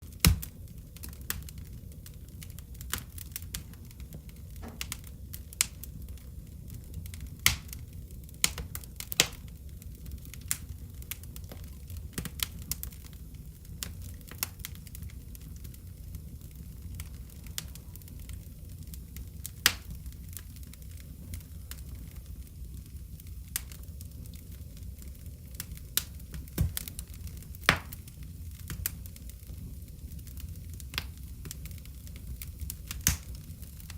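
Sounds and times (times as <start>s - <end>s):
low rumble of flames: 0.0s - 33.9s
wood fire crackling and popping: 0.0s - 33.9s.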